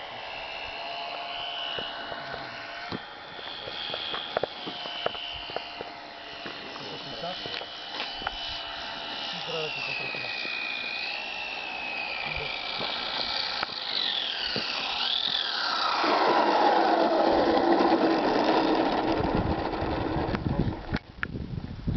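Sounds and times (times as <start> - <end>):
model plane electric motor whine: 0.0 - 21.9.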